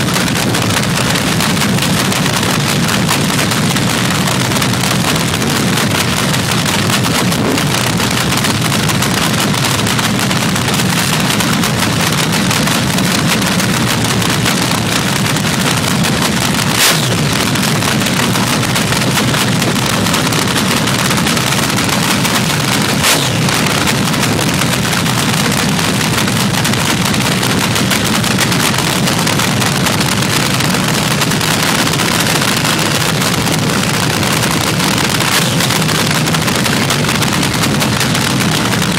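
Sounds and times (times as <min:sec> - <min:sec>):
drag racing engine idling: 0:00.0 - 0:38.9
sharp engine pops: 0:00.0 - 0:38.9.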